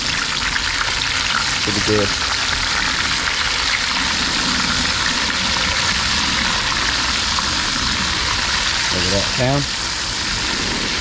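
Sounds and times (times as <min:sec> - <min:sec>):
fish deep frying in oil: 0:00.0 - 0:11.0.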